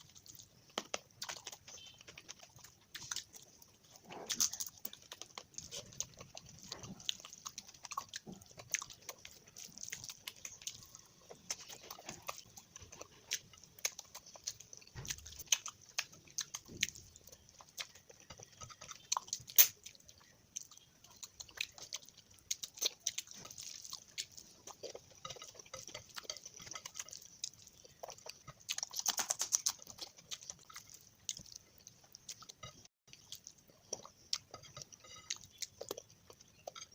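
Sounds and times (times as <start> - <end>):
close chewing and mouth sounds: 0.0 - 36.9.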